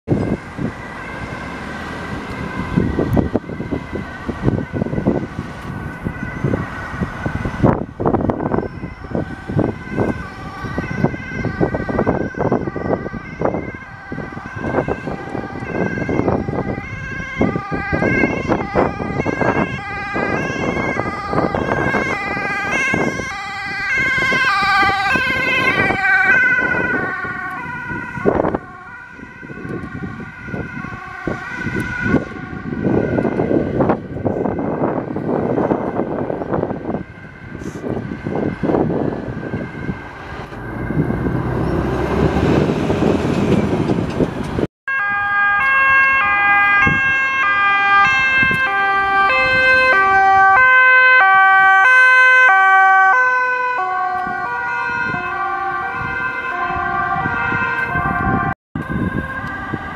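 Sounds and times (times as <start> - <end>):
hi-lo sirens: 0.0 - 59.9.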